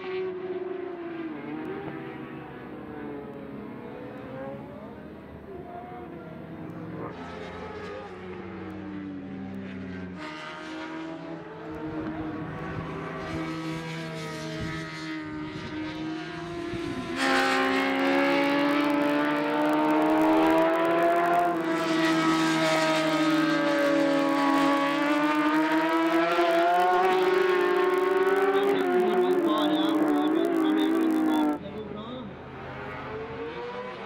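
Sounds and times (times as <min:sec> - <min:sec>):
racing motorcycle engines: 0:00.0 - 0:34.0.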